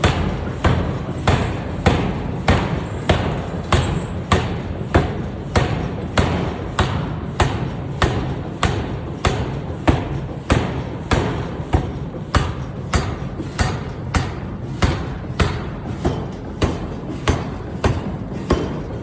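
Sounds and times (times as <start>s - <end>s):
air hammer striking: 0.0s - 19.0s.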